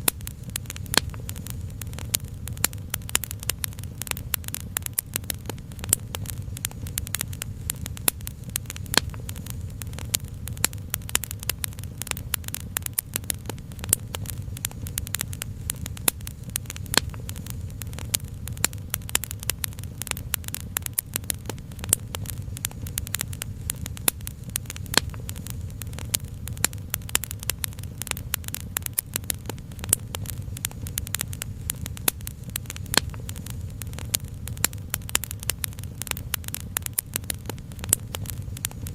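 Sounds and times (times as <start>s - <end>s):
sharp pops and snaps: 0.0s - 38.9s
steady low rumble: 0.0s - 38.9s
wood fire crackling: 0.0s - 38.9s.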